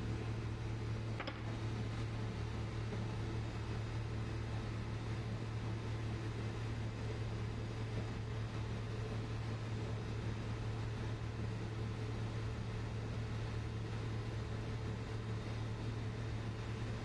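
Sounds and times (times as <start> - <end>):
ship machinery hum and hiss: 0.0 - 17.0.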